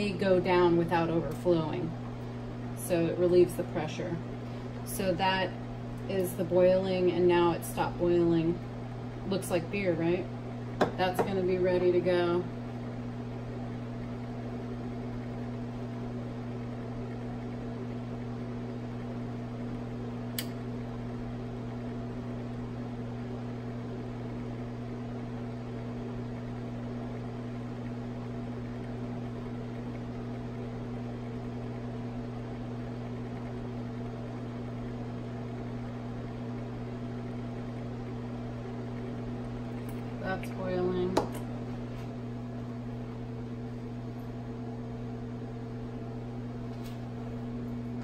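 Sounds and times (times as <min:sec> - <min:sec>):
electrical hum of lab equipment: 0:00.0 - 0:48.0.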